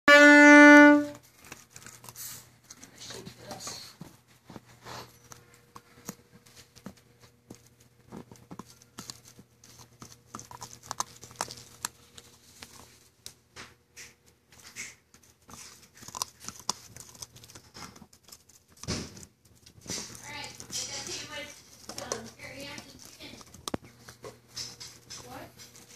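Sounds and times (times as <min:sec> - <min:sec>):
puppy chewing plastic toothbrush: 0:01.1 - 0:13.4, 0:14.0 - 0:25.9.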